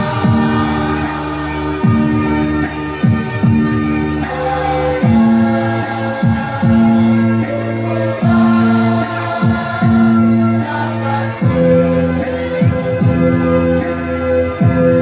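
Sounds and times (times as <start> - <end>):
children's choir singing: 0.0 - 13.1
instrumental accompaniment with bass: 0.0 - 15.0.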